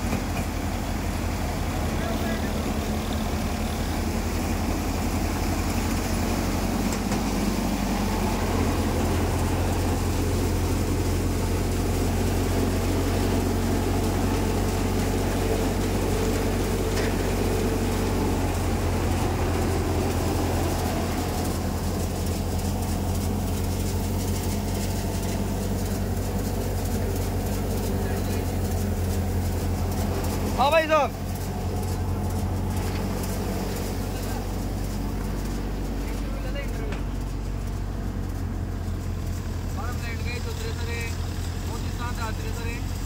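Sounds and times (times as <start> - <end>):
thresher machine hum: 0.0 - 43.0.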